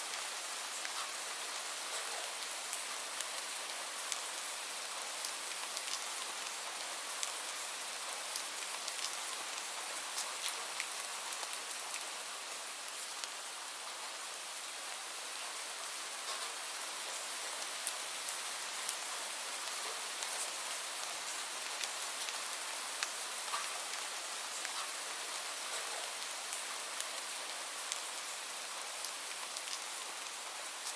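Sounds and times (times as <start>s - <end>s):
steady rain hiss: 0.0s - 30.9s.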